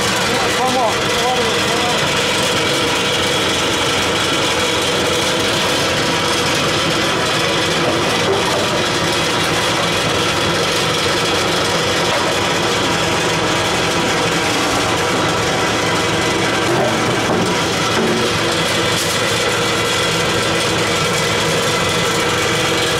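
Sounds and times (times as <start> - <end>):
industrial machinery drone: 0.0 - 22.9.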